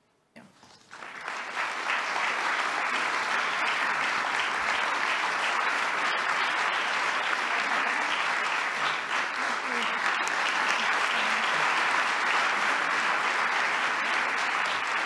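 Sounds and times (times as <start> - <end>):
audience applauding: 0.7 - 15.0.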